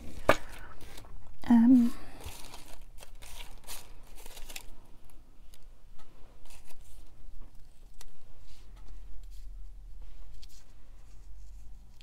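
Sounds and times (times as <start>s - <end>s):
paper and fabric rustling: 0.0s - 5.2s, 6.4s - 12.0s.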